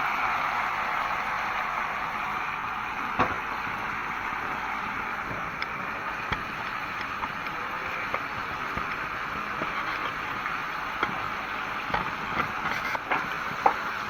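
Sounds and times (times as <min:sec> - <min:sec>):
meat sizzling in a pan: 0:00.5 - 0:14.0.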